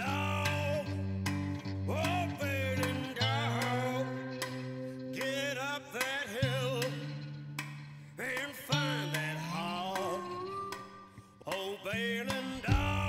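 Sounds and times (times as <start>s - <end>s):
song with sung melody: 0.0s - 13.0s.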